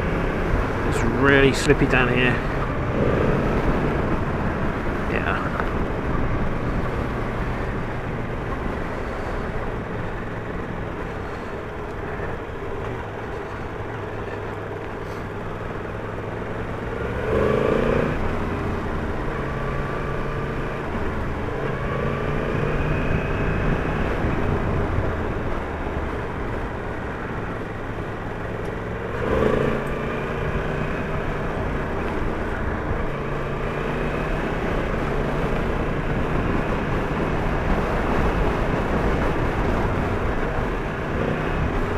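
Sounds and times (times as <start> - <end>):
motorcycle engine riding: 0.0 - 41.9.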